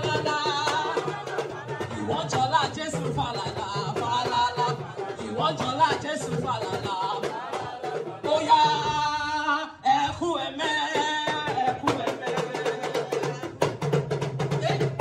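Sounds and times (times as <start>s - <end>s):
person singing: 0.0s - 13.7s
percussion: 0.0s - 15.0s.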